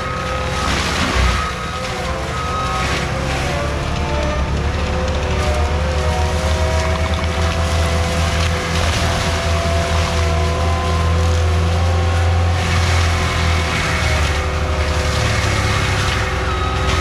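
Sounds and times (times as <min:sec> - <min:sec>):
forestry mulcher engine drone: 0:00.0 - 0:17.0
high mechanical whine: 0:00.0 - 0:17.0.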